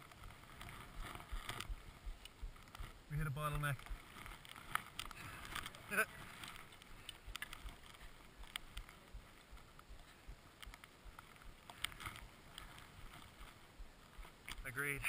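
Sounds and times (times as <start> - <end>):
clicks and taps of skis and poles: 0.0 - 15.0
skis shuffling through powder snow: 0.0 - 15.0.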